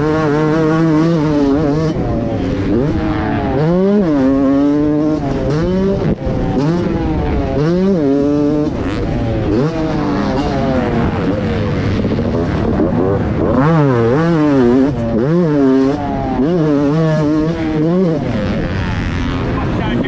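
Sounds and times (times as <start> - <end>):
motocross engine revving: 0.0 - 20.0.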